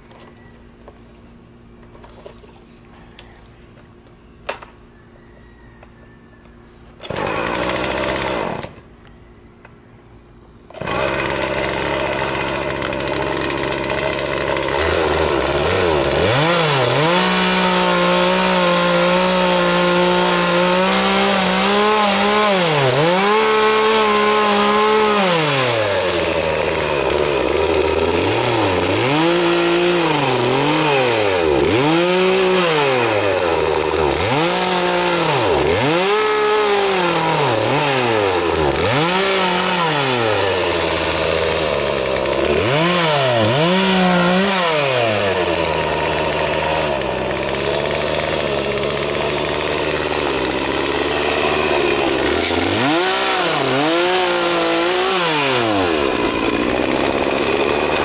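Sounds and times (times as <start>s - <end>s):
chainsaw revving and cutting: 7.0s - 8.8s, 10.7s - 58.0s.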